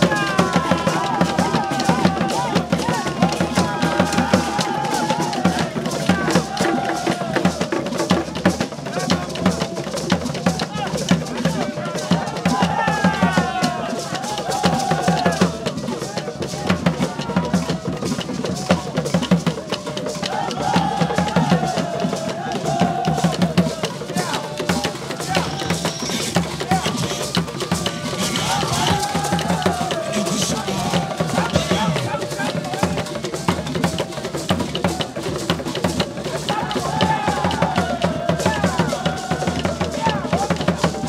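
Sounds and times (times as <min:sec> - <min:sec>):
barrel drums playing: 0:00.0 - 0:41.0
voices singing: 0:00.0 - 0:41.0.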